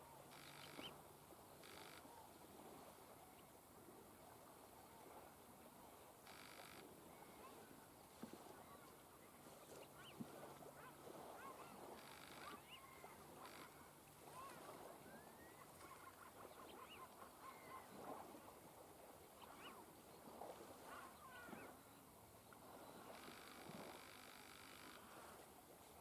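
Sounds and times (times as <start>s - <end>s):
faint waterbirds calling: 0.0s - 26.0s.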